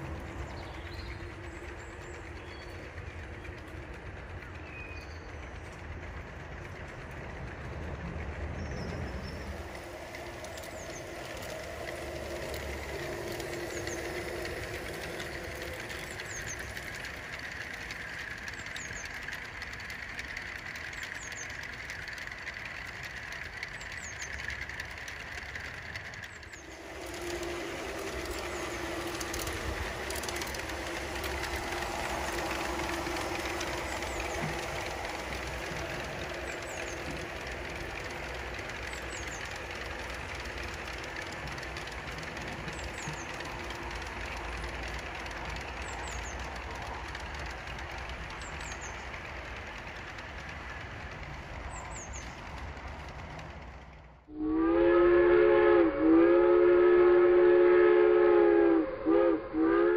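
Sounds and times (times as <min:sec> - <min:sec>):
model train running on track: 0:00.0 - 0:59.9.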